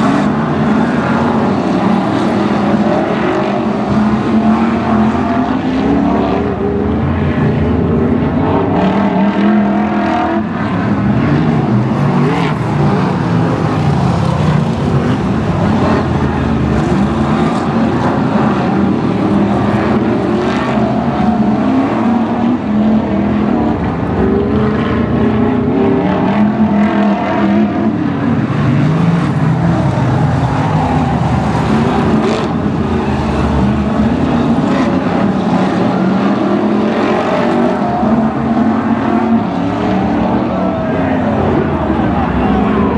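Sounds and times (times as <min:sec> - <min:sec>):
racing car engines passing: 0:00.0 - 0:42.9.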